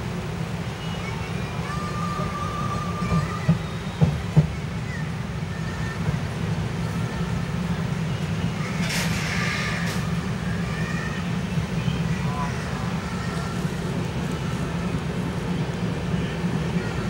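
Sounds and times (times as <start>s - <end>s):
train coach rumbling on rails: 0.0s - 17.0s.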